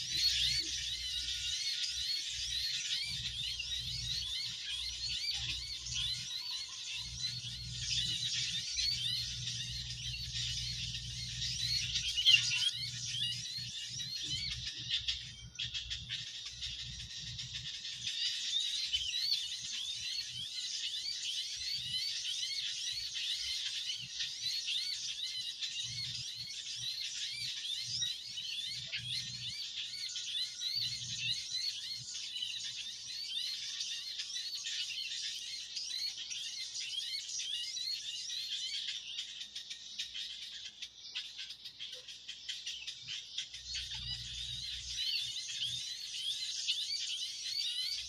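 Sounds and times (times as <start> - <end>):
flock of birds chirping: 0.0 - 48.0.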